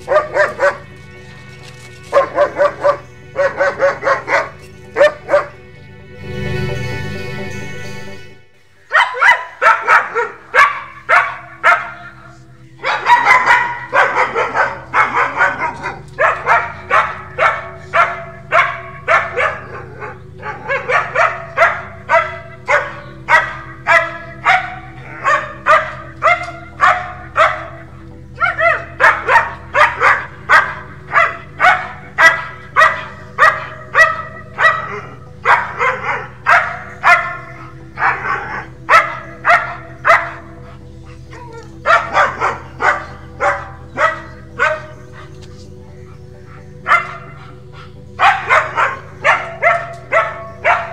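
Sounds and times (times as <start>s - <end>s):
dog barking: 0.0s - 1.0s, 2.1s - 5.6s, 8.9s - 50.9s.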